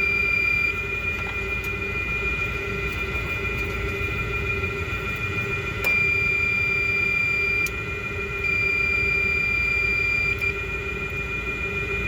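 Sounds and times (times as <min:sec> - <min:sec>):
meter continuity tone: 0:00.0 - 0:12.0
steady machinery hum: 0:00.0 - 0:12.0.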